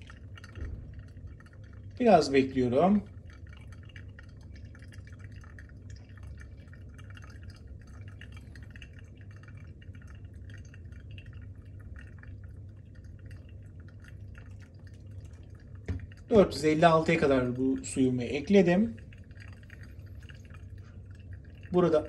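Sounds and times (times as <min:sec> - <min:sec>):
coffee dripping: 0:00.0 - 0:22.0
water pouring from kettle: 0:00.0 - 0:22.0.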